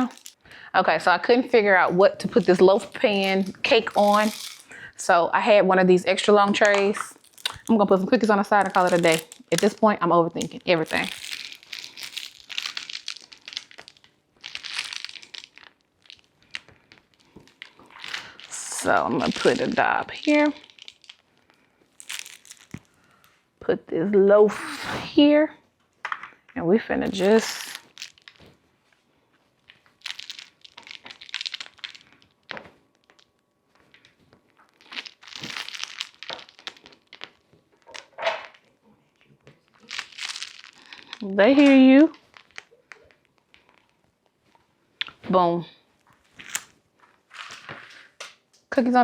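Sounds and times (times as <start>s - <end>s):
wrapping material crinkling: 0.0s - 0.4s, 1.5s - 5.2s, 6.3s - 23.6s, 27.0s - 48.5s.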